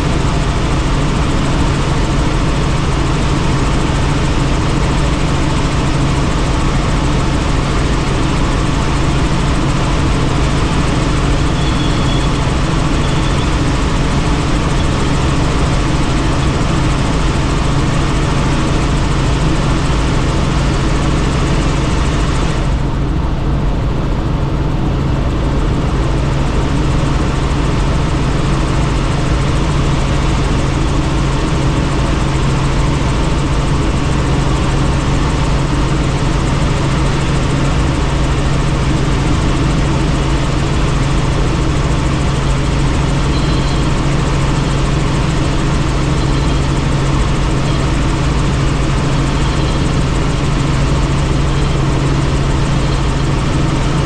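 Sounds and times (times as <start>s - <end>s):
helicopter drone inside cabin: 0.0s - 54.0s.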